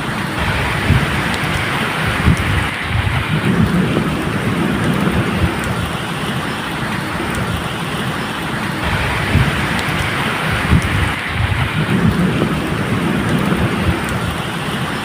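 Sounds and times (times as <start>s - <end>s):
low thunder rumbling: 0.0s - 15.0s
steady rain falling: 0.0s - 15.0s.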